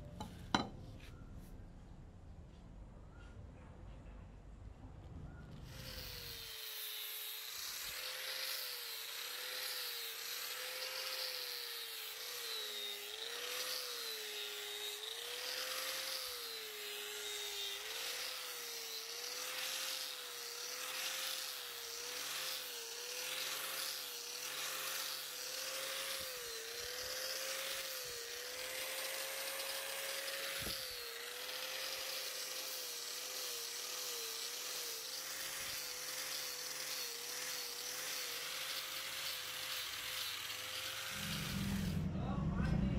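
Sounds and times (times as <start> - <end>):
angle grinder sanding wood: 5.6 - 42.4.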